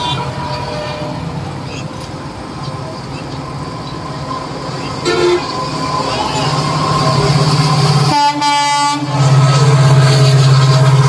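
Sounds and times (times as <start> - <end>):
diesel locomotive engine drone: 0.0 - 11.0
rail rumble: 0.0 - 11.0.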